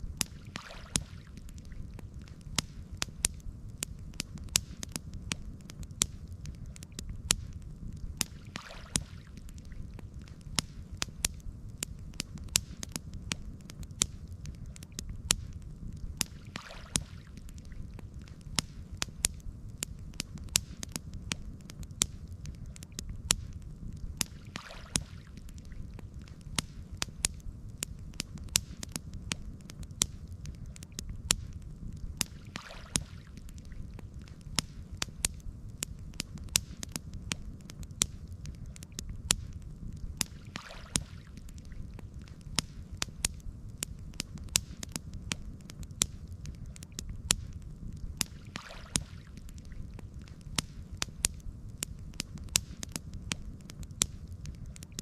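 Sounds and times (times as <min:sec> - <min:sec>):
campfire crackling and popping: 0:00.0 - 0:55.0
low steady rumble: 0:00.0 - 0:55.0.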